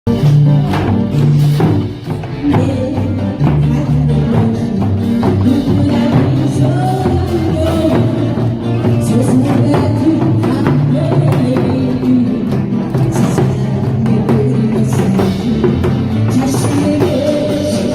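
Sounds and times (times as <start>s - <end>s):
upbeat music with beat: 0.1s - 17.9s.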